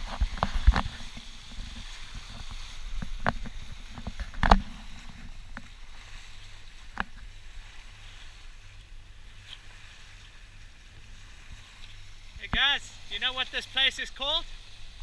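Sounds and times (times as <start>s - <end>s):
water rushing: 0.0s - 15.0s
wind: 0.0s - 15.0s.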